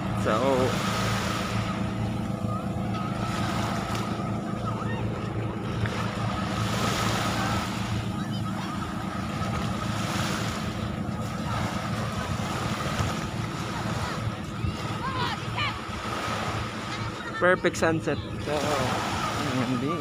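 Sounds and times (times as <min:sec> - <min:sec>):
low engine hum: 0:00.0 - 0:20.0
surf: 0:00.0 - 0:20.0
wind: 0:00.0 - 0:20.0.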